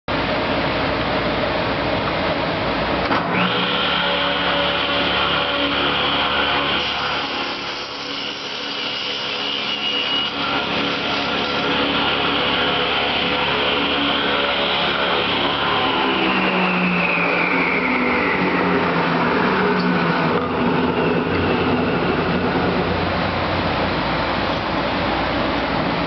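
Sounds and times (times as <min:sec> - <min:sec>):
table saw whine: 0:03.1 - 0:25.6.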